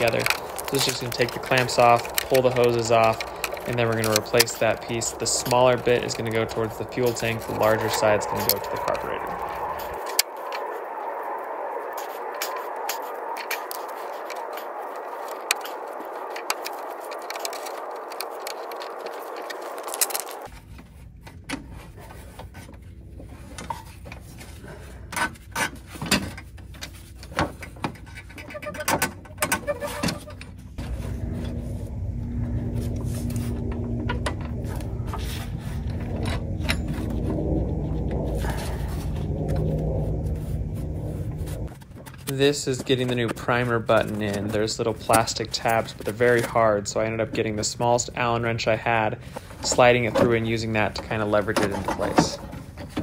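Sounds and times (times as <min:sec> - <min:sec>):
low steady rumble: 0:00.0 - 0:53.0.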